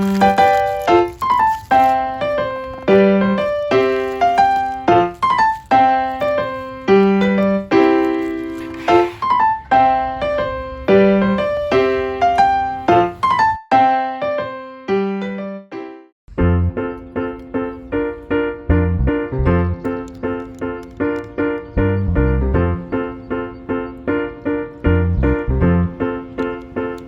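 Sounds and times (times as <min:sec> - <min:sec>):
bouncy piano tune: 0:00.0 - 0:27.0.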